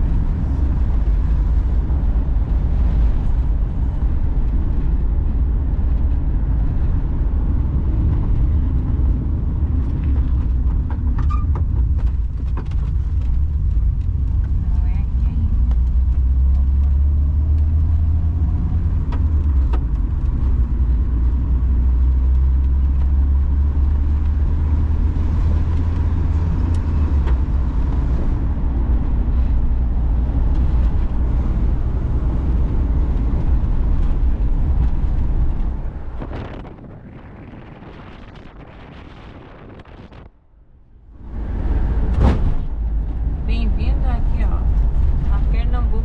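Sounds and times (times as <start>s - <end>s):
engine and road drone inside car: 0.0s - 46.0s.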